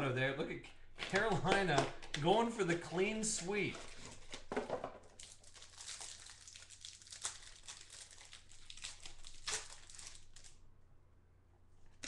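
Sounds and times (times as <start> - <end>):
plastic card sleeves rustling: 0.9 - 10.6.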